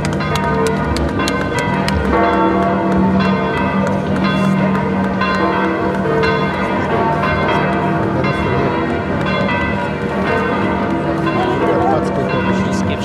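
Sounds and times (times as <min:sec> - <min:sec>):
church bells pealing: 0:00.0 - 0:13.0.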